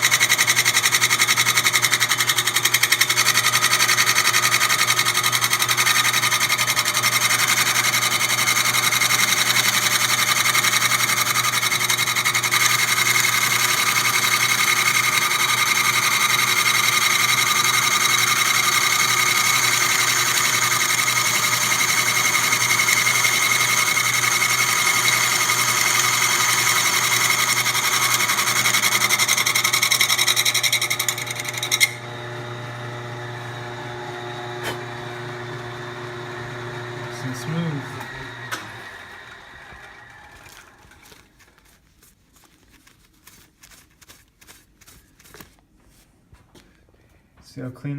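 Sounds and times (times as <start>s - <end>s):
milling machine grinding whine: 0.0s - 41.3s.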